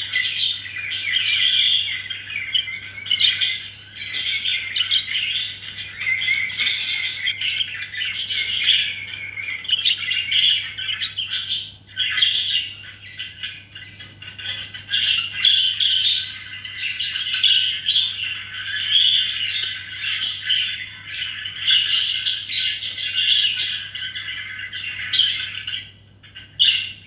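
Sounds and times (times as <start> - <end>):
budgerigars chattering: 0.0 - 27.0.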